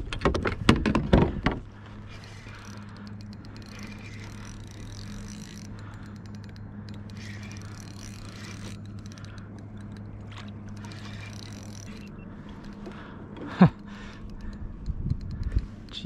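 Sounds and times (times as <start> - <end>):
low hum with higher overtone: 0.0 - 16.0
light clicks: 2.2 - 16.0.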